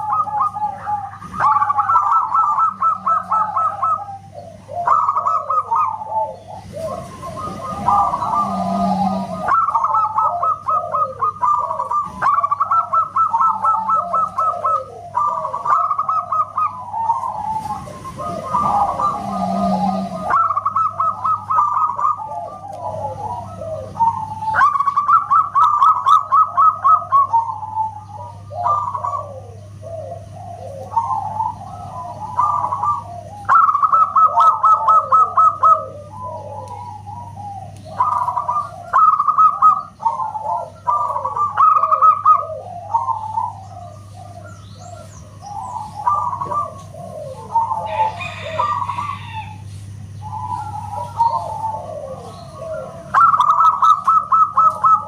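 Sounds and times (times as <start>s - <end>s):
dove cooing: 0.0s - 55.0s
steady low hum: 0.0s - 55.0s.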